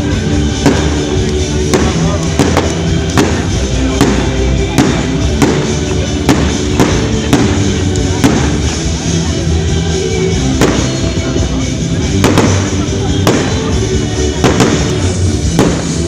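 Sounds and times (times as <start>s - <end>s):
fireworks banging: 0.0s - 16.0s
music: 0.0s - 16.0s.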